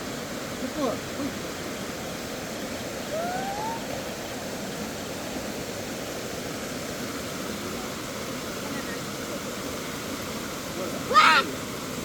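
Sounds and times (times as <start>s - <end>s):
stream flowing: 0.0s - 12.0s.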